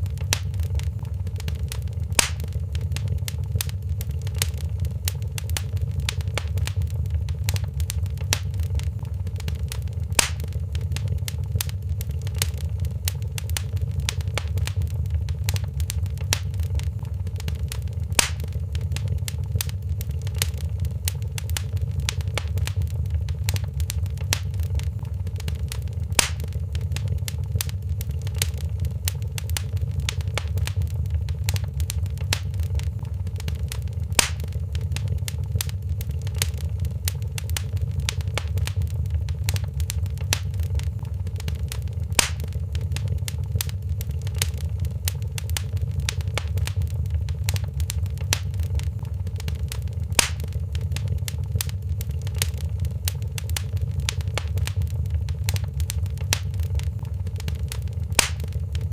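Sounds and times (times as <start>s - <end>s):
low rumble: 0.0s - 58.9s
wood fire crackling and popping: 0.0s - 58.9s.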